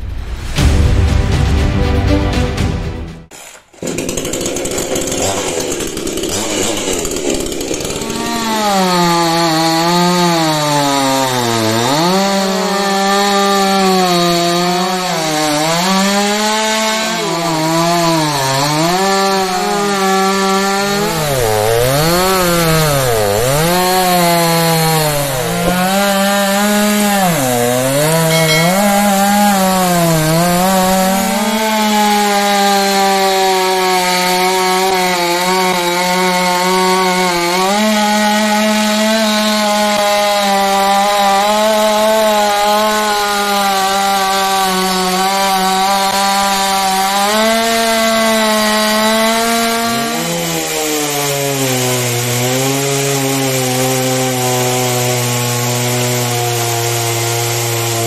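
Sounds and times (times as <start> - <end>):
chainsaw cutting wood: 3.3 - 58.0.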